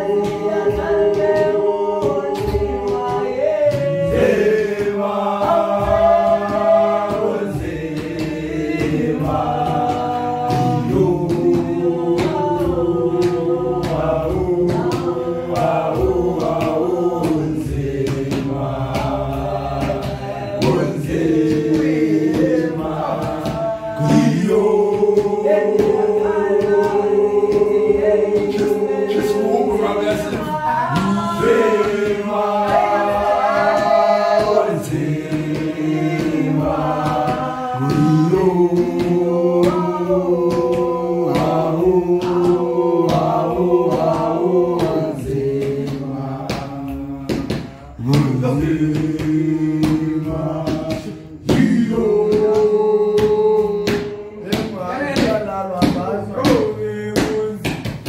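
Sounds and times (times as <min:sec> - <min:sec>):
men singing in harmony: 0:00.0 - 0:58.0.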